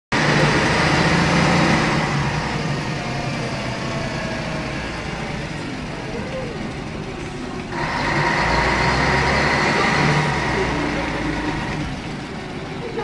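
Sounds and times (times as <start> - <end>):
bus diesel engine running: 0.1 - 13.0.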